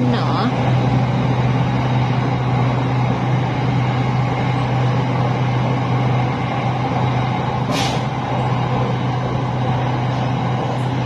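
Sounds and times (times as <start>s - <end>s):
electric train hum and rumble: 0.0s - 11.0s.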